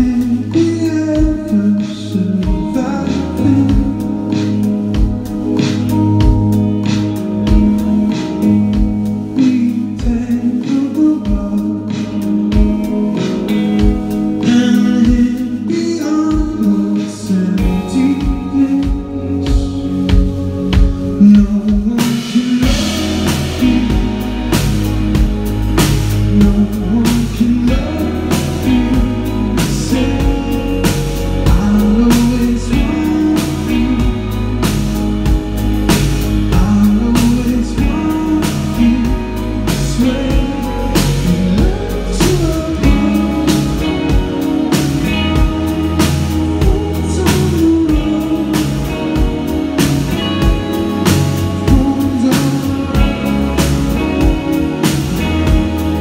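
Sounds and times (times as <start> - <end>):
man singing: 0.0 - 5.1, 7.4 - 56.0
bass guitar: 0.0 - 56.0
drum kit beat: 0.0 - 56.0
electric guitars: 0.0 - 56.0.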